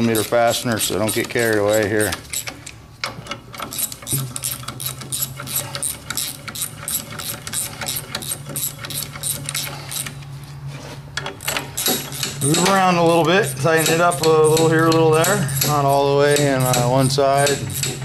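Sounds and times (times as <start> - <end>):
socket ratchet clicking: 0.0 - 10.2, 11.4 - 18.0
steady low hum: 0.0 - 18.0.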